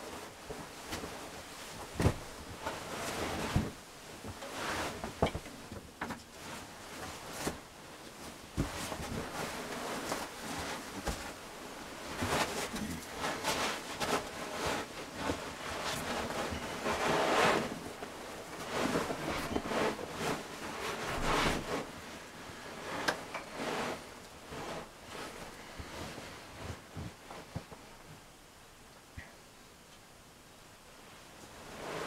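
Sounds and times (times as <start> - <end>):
bedding rustling: 0.0 - 28.9, 31.0 - 32.0.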